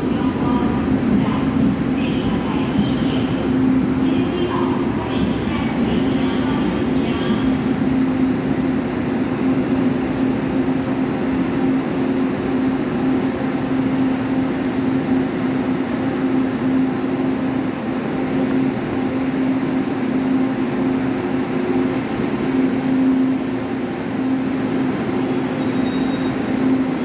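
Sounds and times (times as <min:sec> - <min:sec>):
train coaches rumbling: 0:00.0 - 0:27.0.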